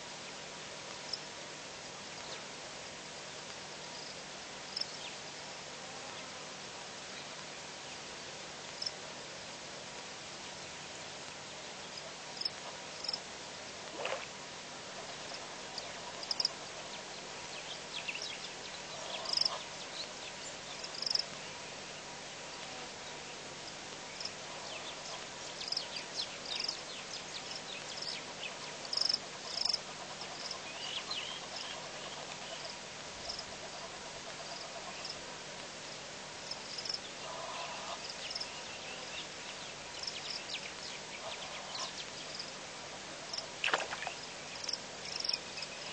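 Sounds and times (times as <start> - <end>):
steady hiss: 0.0 - 45.9.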